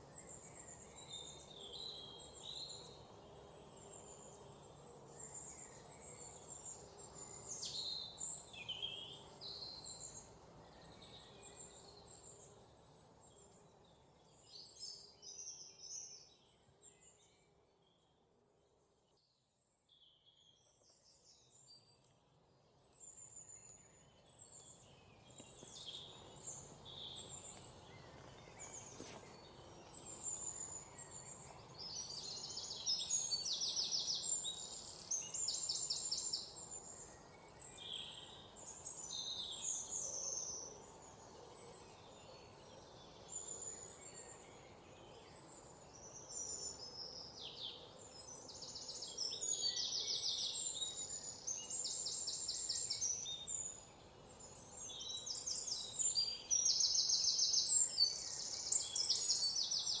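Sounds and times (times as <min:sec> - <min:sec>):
faint steady hiss: 0:00.0 - 1:00.0
songbirds chirping and trilling: 0:00.0 - 1:00.0.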